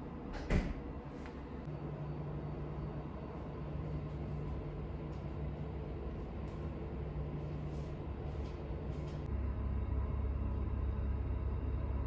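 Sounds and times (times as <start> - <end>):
low machine hum: 0.0 - 12.0
steady low tone: 1.6 - 12.0.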